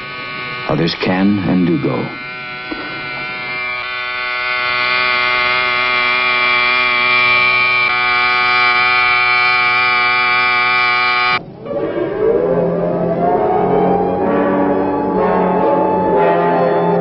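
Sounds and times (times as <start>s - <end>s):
buzzy warning tone: 0.0s - 17.0s.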